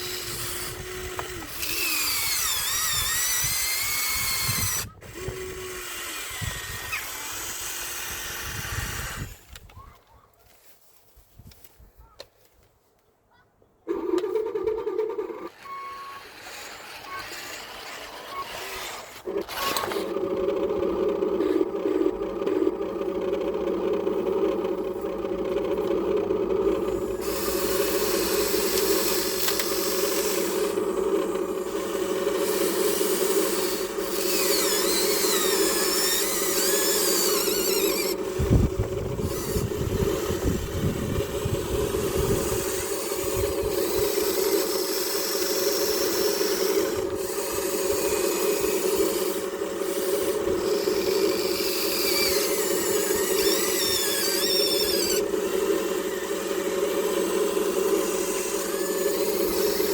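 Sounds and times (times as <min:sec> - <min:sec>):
electric motors and gears whirring: 0:00.0 - 0:10.0, 0:13.9 - 0:59.9.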